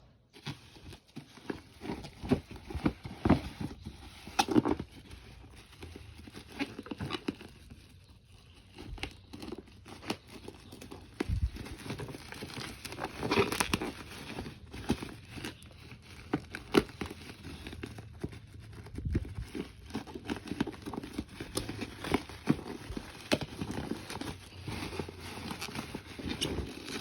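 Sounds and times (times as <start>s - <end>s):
wrapping crinkling and rustling: 0.0s - 27.0s.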